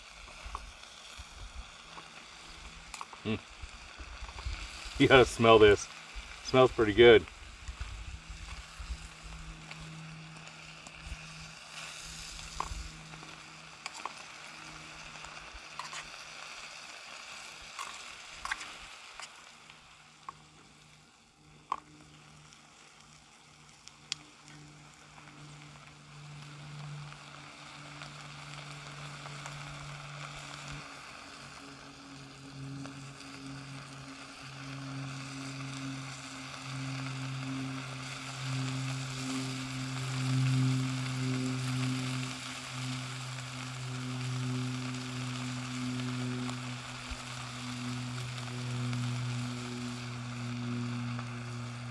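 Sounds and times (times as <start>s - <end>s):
food sizzling in a pan: 0.0s - 23.1s, 23.9s - 51.9s
low steady hum: 0.0s - 51.9s.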